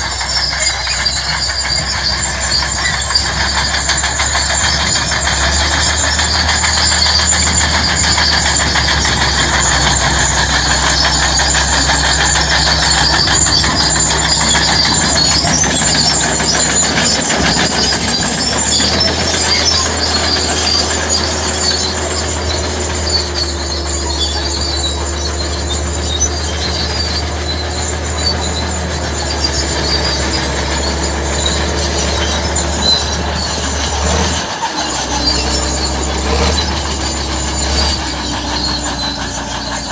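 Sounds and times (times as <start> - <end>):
diesel engine under load: 0.0 - 39.9
steel tracks squeaking: 0.0 - 39.9.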